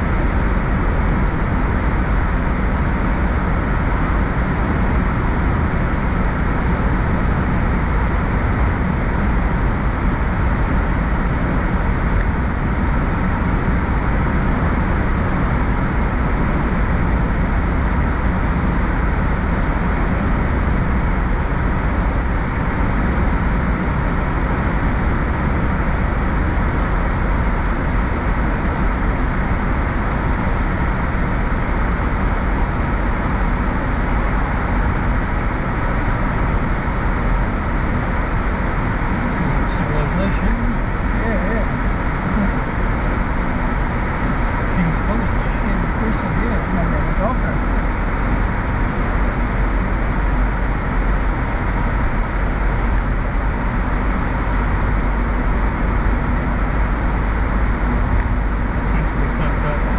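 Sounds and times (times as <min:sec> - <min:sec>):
car road noise at highway speed: 0:00.0 - 0:59.9.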